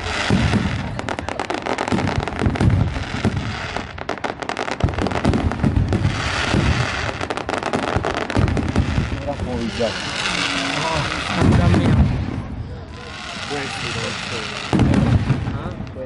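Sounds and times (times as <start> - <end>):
deep fireworks booms: 0.0 - 16.0
fireworks crackling: 0.0 - 16.0
fireworks sharp bangs: 0.0 - 16.0.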